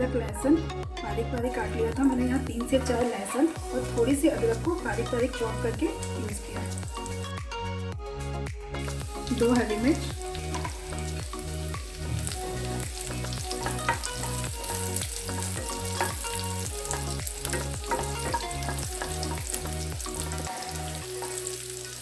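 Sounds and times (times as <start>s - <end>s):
background music with bass line: 0.0s - 22.0s
spices sizzling in hot ghee: 1.2s - 22.0s.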